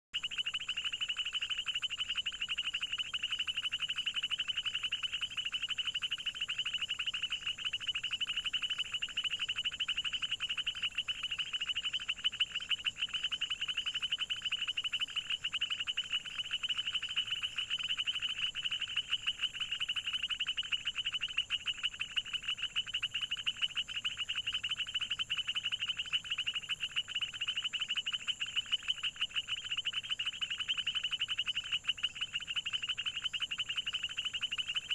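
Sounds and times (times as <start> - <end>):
frogs calling in chorus: 0.2 - 34.9.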